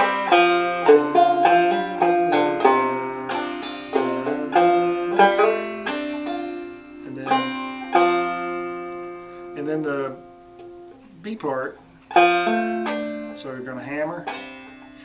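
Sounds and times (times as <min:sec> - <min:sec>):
banjo picking single notes: 0:00.0 - 0:15.0.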